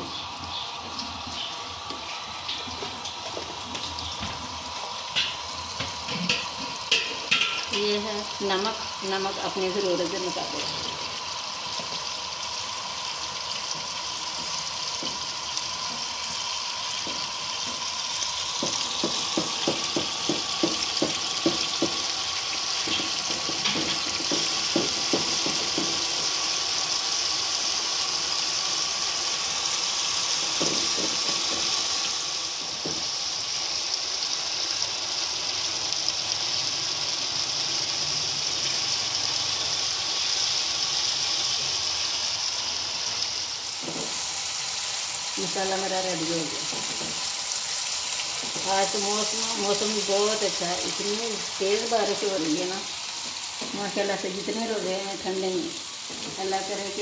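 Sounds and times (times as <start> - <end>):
meat sizzling in oil: 0.0 - 57.0.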